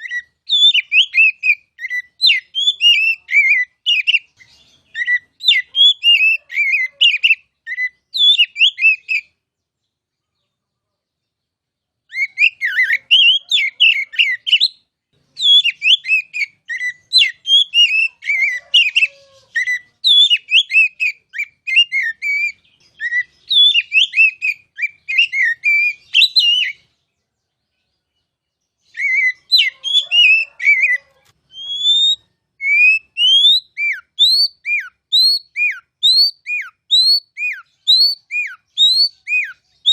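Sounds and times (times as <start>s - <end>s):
bird singing whistled phrases: 0.0s - 9.3s, 12.1s - 26.9s, 28.8s - 39.9s.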